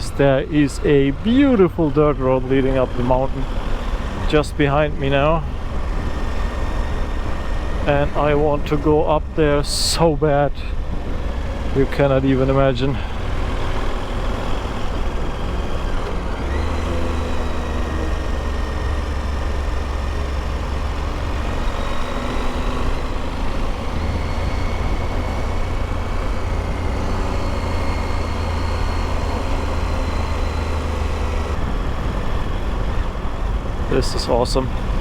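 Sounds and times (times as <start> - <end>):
motorcycle engine drone: 0.0 - 35.0.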